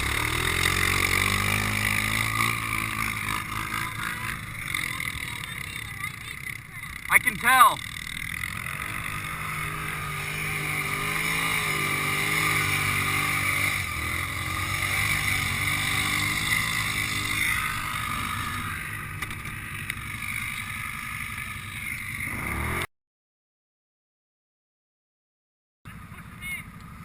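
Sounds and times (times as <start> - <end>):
atv engine running: 0.0 - 22.9, 25.9 - 27.0.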